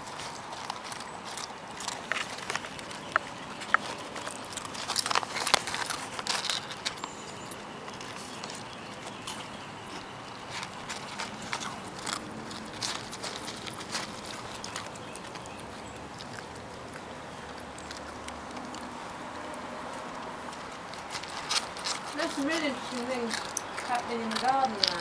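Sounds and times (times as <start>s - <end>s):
crisp packet crinkling: 0.0s - 25.0s
dog chewing and licking: 0.0s - 25.0s.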